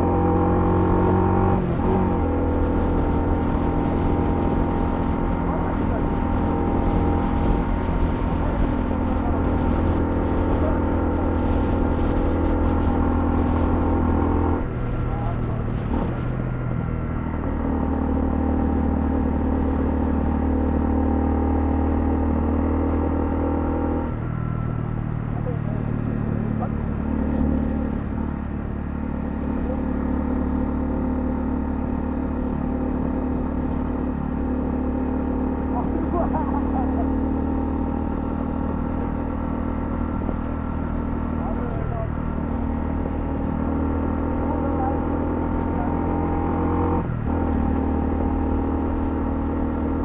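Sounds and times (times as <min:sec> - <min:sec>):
motorcycle engine running: 0:00.0 - 0:50.0
road and wind noise: 0:00.0 - 0:50.0.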